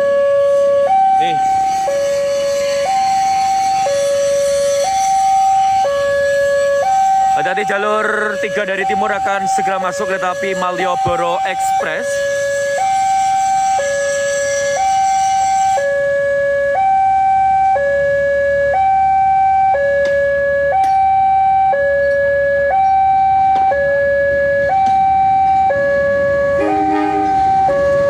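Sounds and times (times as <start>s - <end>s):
two-tone warning alarm: 0.0s - 28.0s.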